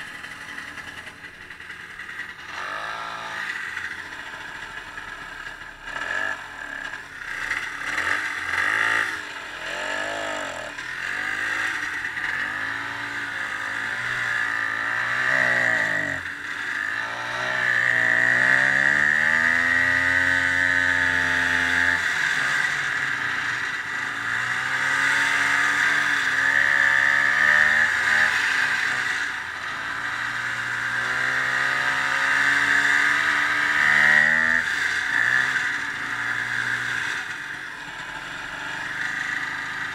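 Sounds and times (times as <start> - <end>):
snowmobile engine revving: 2.4 - 39.9.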